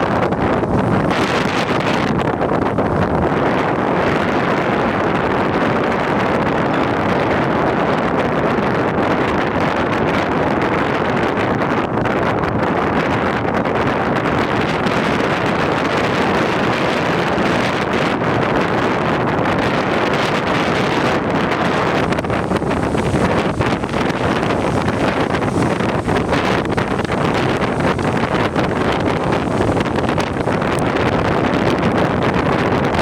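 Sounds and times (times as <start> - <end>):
strong wind on microphone: 0.0 - 33.0.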